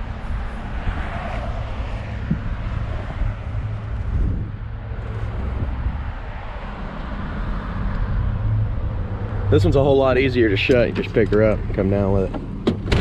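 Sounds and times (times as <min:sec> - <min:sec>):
wind buffeting microphone: 0:00.0 - 0:12.1.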